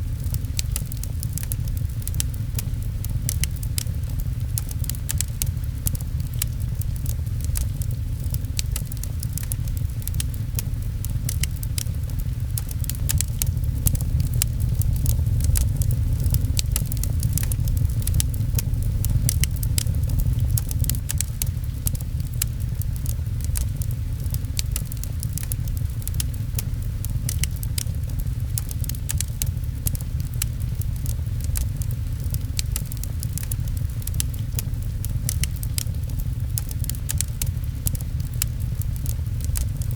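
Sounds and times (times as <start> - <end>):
fireplace fire crackling: 0.0 - 39.9
rain pattering: 0.0 - 39.9.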